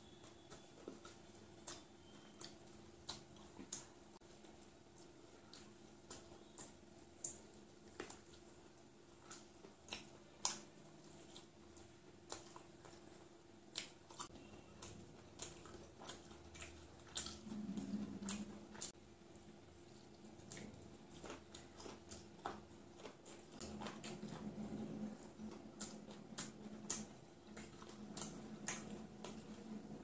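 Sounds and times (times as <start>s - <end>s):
chewing crispy food: 0.0s - 30.0s.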